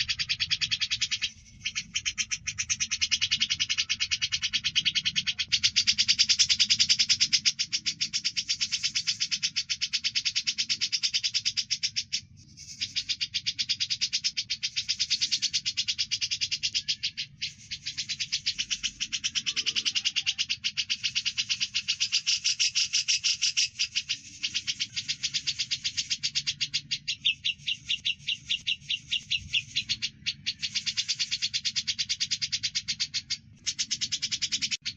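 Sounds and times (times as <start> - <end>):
birds chirping rapidly: 0.0 - 34.9.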